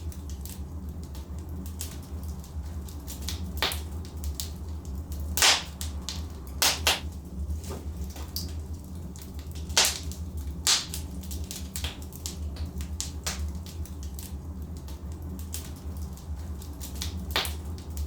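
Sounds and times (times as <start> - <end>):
low rumble of flame: 0.0 - 18.0
wood fire crackling and popping: 0.0 - 18.0.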